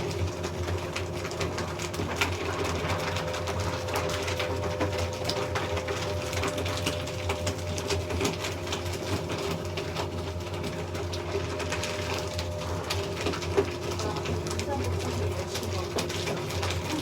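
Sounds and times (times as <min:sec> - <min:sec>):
paper shredder shredding paper: 0:00.0 - 0:17.0.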